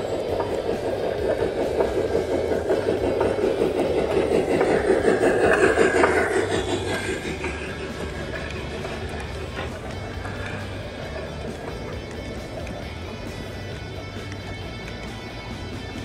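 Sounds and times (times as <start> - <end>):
gear whine: 0.0 - 16.0
model train wheels rumbling: 0.0 - 16.0.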